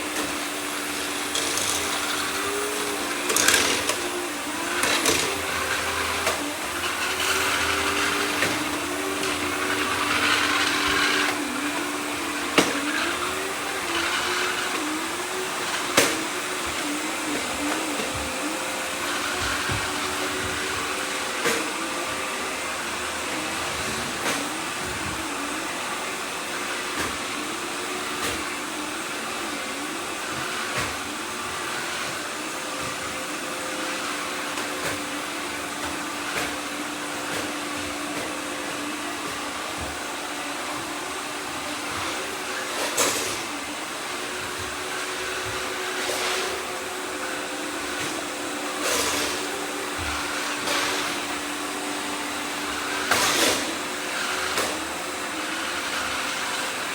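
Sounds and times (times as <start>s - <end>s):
robot vacuums whirring: 0.0s - 56.9s.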